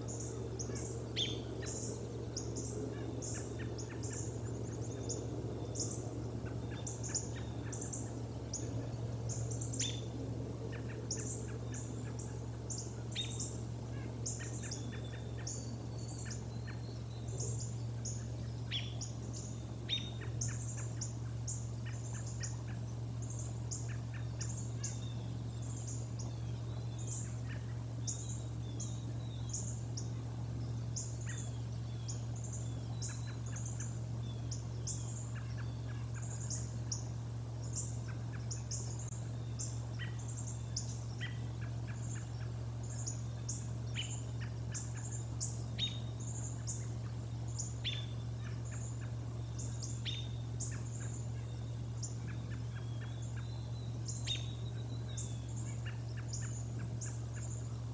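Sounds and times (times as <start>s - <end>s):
low hum: 0.0s - 57.9s
small birds chirping: 0.0s - 57.9s.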